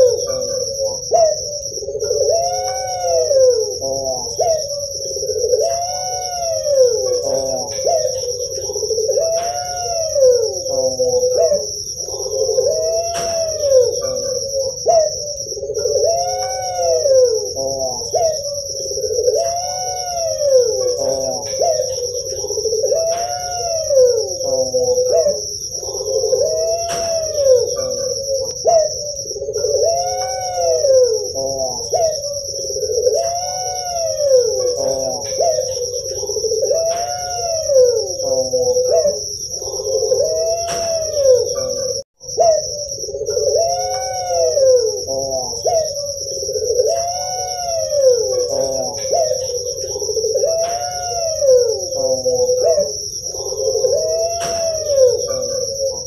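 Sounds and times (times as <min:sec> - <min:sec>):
dove cooing: 0:00.0 - 0:56.0
steady high-pitched whine: 0:00.0 - 0:56.0.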